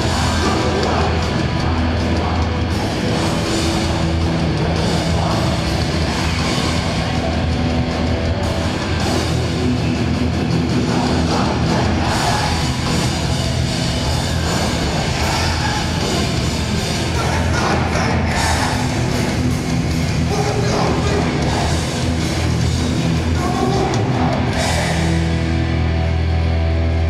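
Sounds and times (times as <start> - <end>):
punk band playing live: 0.0 - 27.0.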